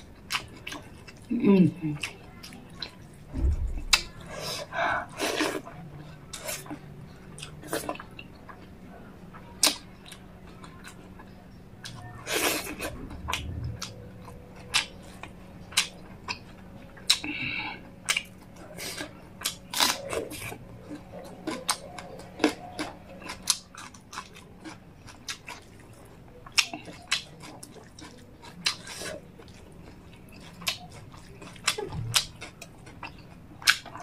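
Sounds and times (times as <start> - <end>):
person chewing: 0.0 - 8.7, 9.4 - 34.0.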